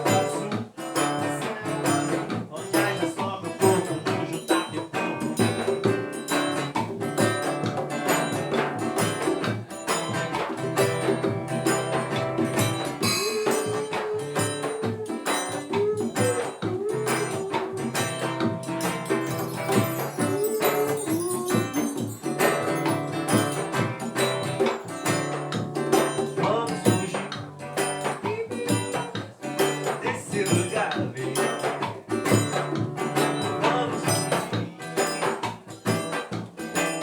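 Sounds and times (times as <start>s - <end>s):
reggae band playing: 0.0s - 37.0s
tambourine: 0.0s - 37.0s.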